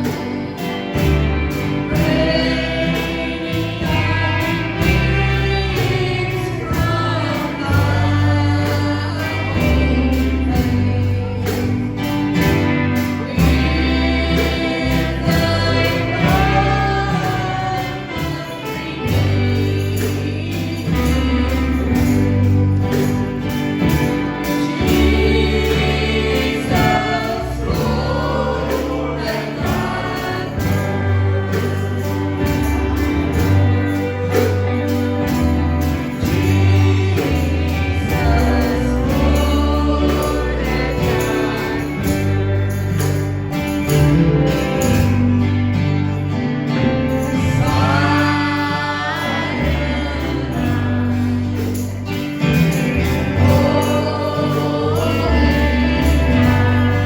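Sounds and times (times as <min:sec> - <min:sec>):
band with bass and drums: 0:00.0 - 0:57.0
choir singing gospel: 0:00.0 - 0:57.0.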